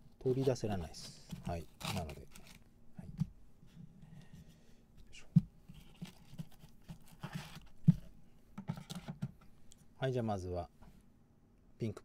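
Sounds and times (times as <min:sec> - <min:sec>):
soft rustling of packaging: 0:00.2 - 0:09.9.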